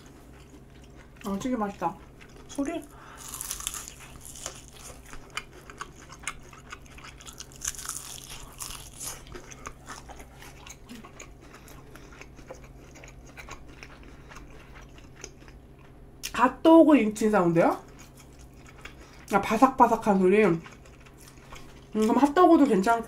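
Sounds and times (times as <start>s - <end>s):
crunchy chewing of fried chicken: 0.0s - 16.3s, 17.7s - 22.9s.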